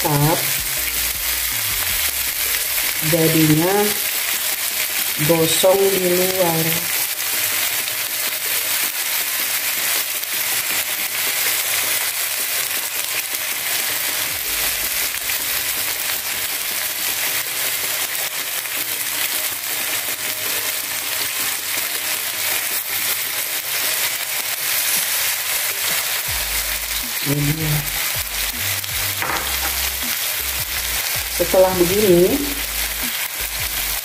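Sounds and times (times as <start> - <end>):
fish sizzling on grill pan: 0.0 - 34.0.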